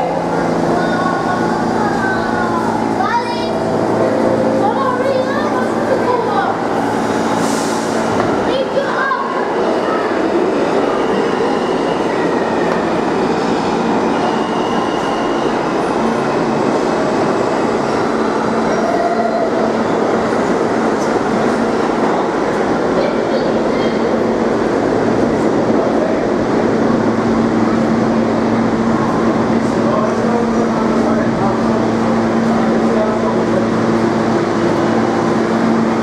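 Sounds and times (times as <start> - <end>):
subway train wheel and rail noise: 0.0 - 36.0.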